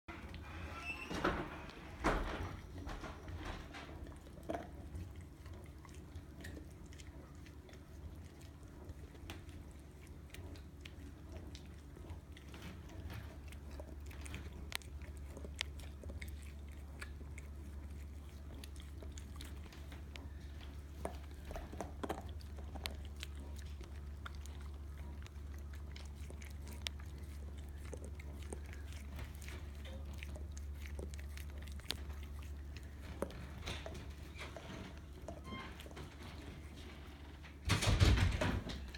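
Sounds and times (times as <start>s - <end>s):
low steady hum: 0.1s - 38.9s
dog chewing and licking: 2.6s - 37.6s.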